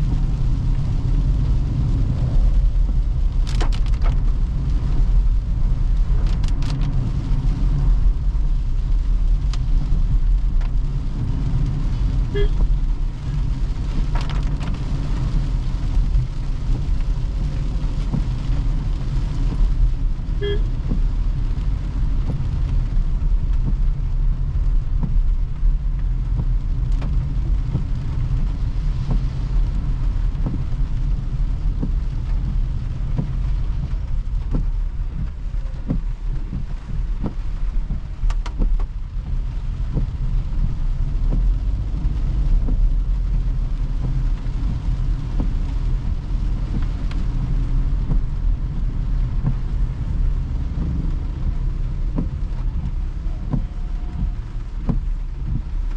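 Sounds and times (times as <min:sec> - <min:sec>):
tyre rumble on wet road: 0:00.0 - 0:55.9.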